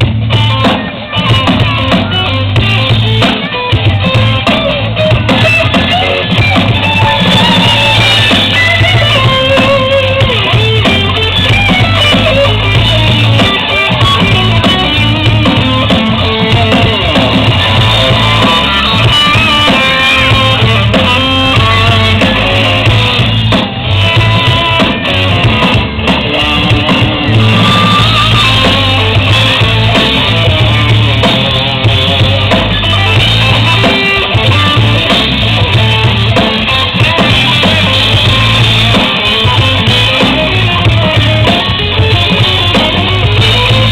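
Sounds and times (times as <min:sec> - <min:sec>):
bass line: 0:00.0 - 0:43.9
drum kit: 0:00.0 - 0:43.9
guitar: 0:00.0 - 0:43.9.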